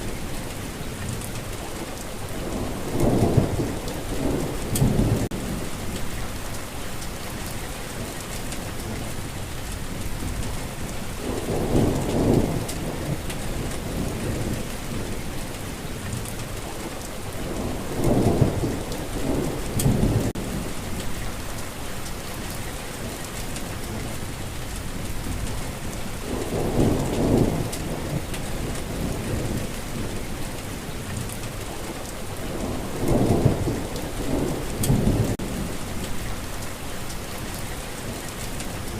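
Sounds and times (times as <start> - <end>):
steady rainfall: 0.0 - 38.9
low rumbles of thunder: 2.2 - 7.5, 8.3 - 21.6, 23.3 - 38.9.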